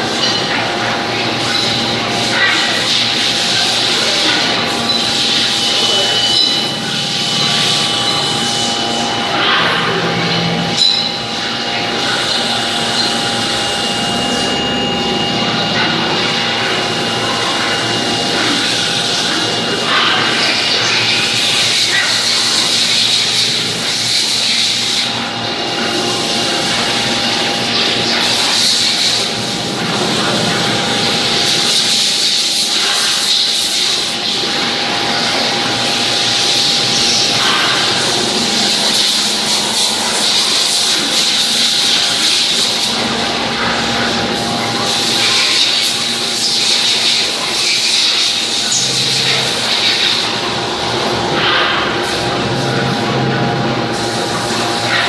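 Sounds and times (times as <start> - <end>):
machines running with high whine: 0.0 - 55.0.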